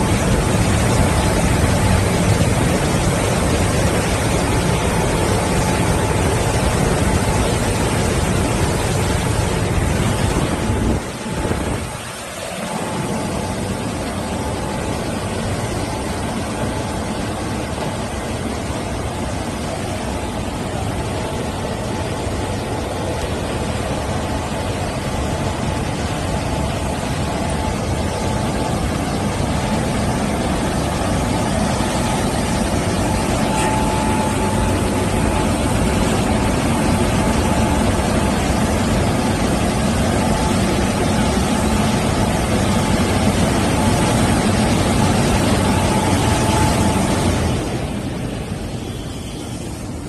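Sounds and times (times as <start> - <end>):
car wash machinery rushing: 0.0 - 50.0
faint steady hum: 0.0 - 50.0.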